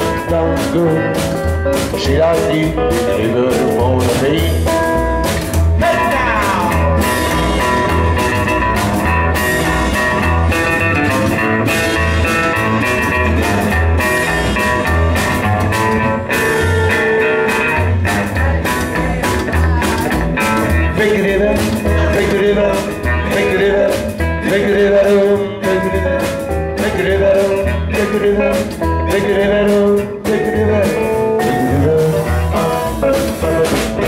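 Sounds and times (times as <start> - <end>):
double bass pulsing: 0.0 - 34.0
live rock and roll band: 0.0 - 34.0.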